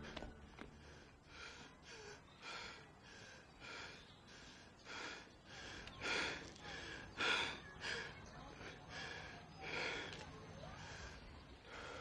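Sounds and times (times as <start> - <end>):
man panting: 0.0 - 12.0.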